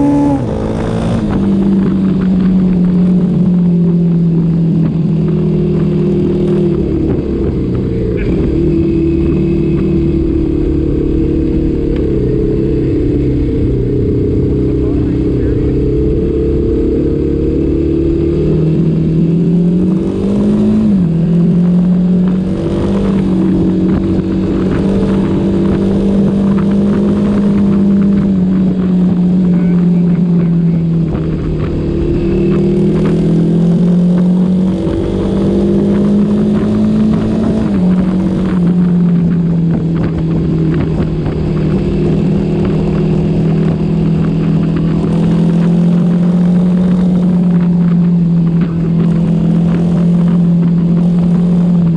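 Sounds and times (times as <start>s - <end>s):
rumbling ride noise: 0.0s - 51.9s
vehicle engine running: 0.0s - 51.9s.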